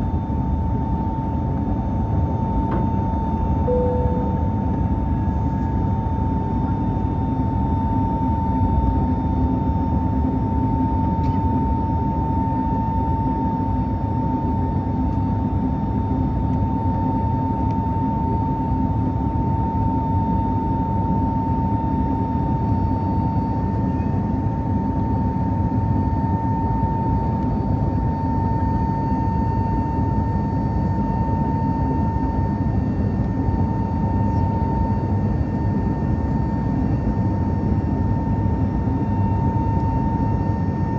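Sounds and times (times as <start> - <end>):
airplane engines in cabin: 0.0 - 40.9
constant engine whine: 0.0 - 40.9.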